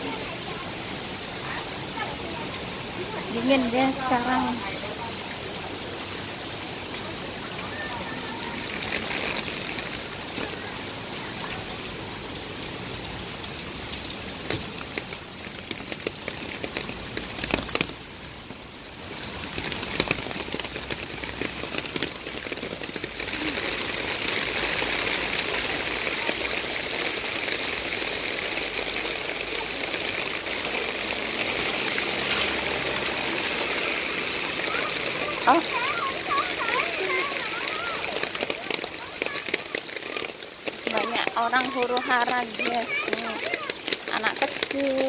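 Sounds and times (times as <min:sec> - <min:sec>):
rain on wet pavement: 0:00.0 - 0:45.0.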